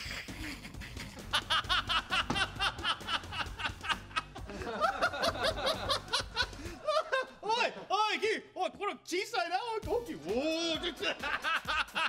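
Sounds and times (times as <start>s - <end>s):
person laughing rhythmically: 0.0s - 8.0s, 10.2s - 12.0s
background music: 0.0s - 12.0s.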